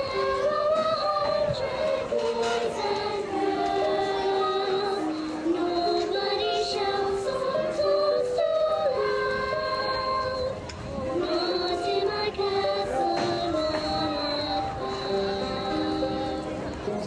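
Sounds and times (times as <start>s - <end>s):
children's choir singing: 0.0s - 17.0s
girl singing into microphone: 0.0s - 17.0s.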